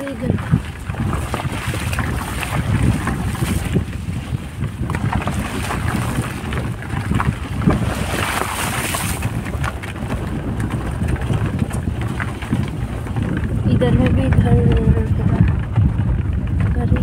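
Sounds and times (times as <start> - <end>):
car rumbling on road: 0.0 - 17.0
wind buffeting microphone: 0.0 - 17.0.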